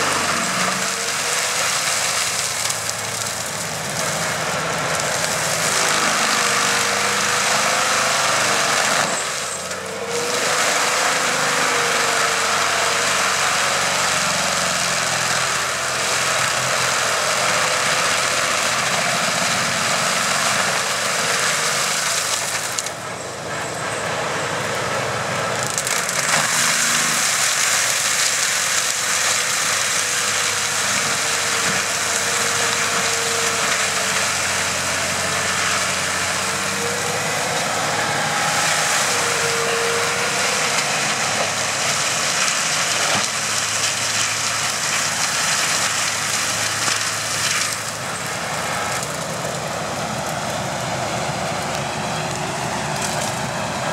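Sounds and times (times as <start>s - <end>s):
mulcher grinding wood: 0.0s - 53.9s
tractor diesel engine under load: 0.0s - 53.9s.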